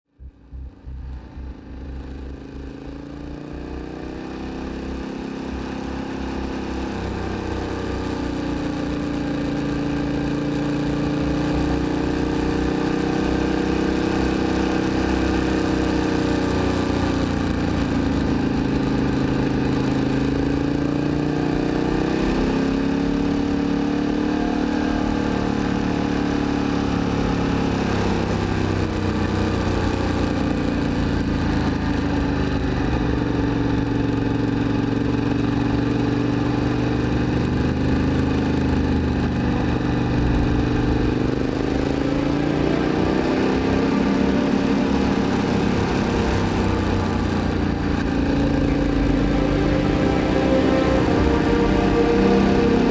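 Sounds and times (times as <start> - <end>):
motorcycle engine revving: 0.1 - 52.9.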